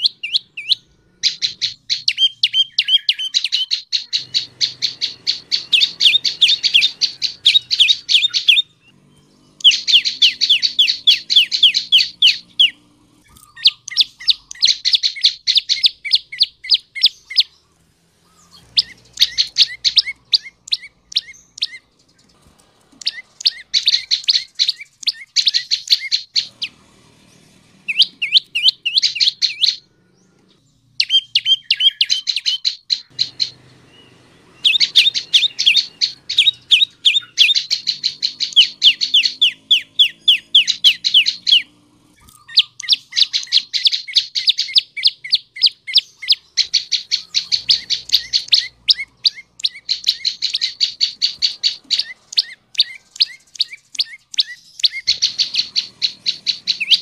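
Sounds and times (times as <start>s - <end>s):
bird singing trilled phrases: 0.0s - 57.0s.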